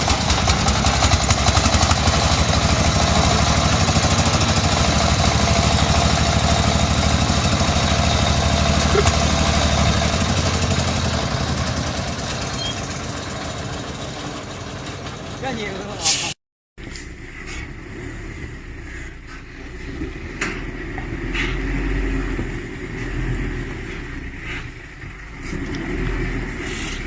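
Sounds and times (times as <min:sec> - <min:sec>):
diesel engine running: 0:00.0 - 0:16.2, 0:16.8 - 0:27.0.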